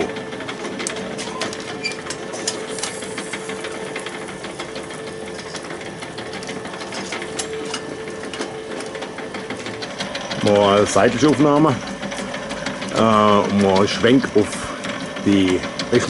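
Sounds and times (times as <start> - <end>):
rotisserie motor humming: 0.0 - 16.0.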